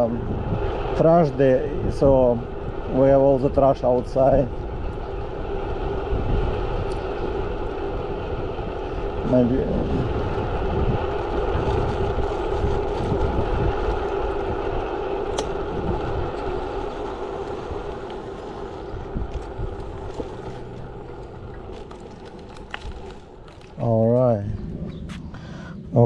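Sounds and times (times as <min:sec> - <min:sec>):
electric motor hum: 0:00.0 - 0:23.8
tyre rumble over rough asphalt: 0:00.0 - 0:25.2
wind noise on camera: 0:00.0 - 0:25.3.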